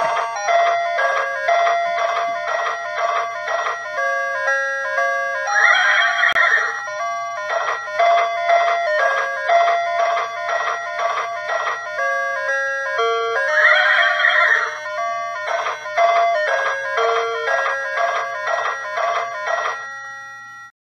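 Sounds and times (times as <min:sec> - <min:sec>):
ice cream van chime tune: 0:00.0 - 0:20.7.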